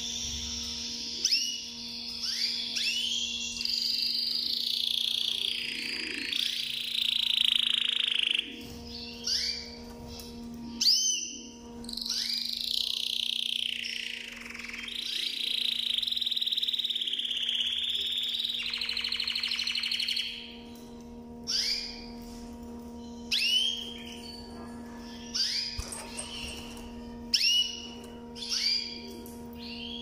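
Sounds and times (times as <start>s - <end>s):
canary singing: 0.0s - 22.1s, 23.0s - 30.0s.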